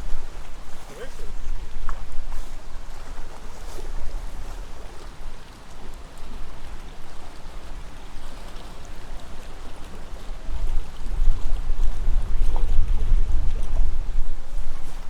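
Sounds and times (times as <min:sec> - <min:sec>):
wind buffeting microphone: 0:00.0 - 0:15.0
wind gusting through trees: 0:00.0 - 0:15.0.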